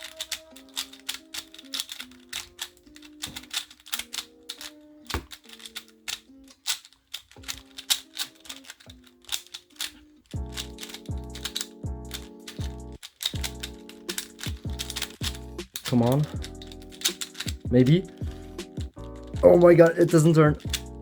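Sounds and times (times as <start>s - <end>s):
rubik's cube turning clicks: 0.0s - 19.4s, 20.6s - 21.0s
background music with simple melody: 0.0s - 21.0s.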